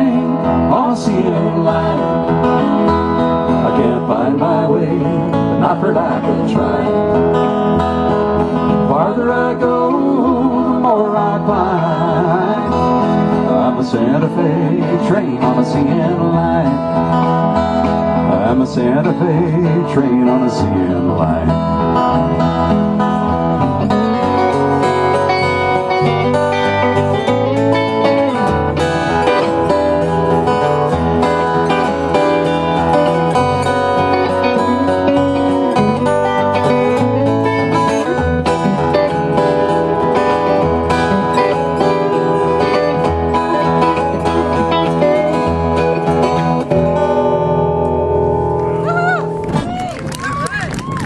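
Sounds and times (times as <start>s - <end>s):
acoustic guitar plucked: 0.0s - 49.9s
bass notes: 0.0s - 50.3s
country band playing: 0.0s - 51.0s.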